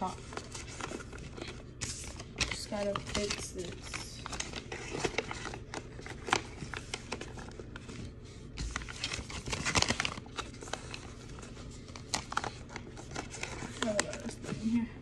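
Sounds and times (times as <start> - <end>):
packets crinkling and rustling: 0.0 - 14.9.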